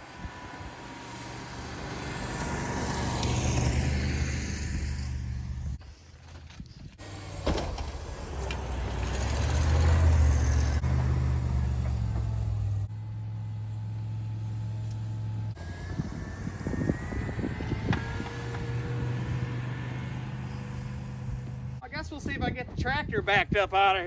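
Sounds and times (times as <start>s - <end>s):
truck engine under load: 0.0s - 21.8s.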